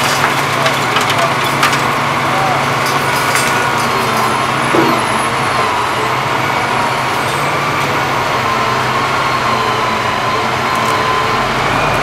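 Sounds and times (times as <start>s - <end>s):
excavator diesel engine running: 0.0s - 12.0s
excavator working metal wall: 0.0s - 12.0s.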